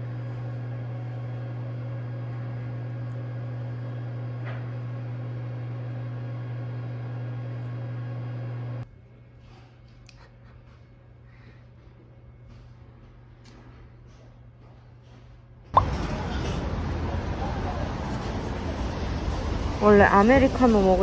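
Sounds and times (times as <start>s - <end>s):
machine electrical hum: 0.0s - 21.0s.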